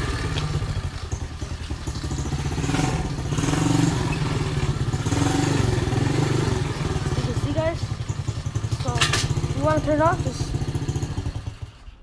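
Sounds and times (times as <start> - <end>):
motorbike engine idling: 0.0 - 12.0.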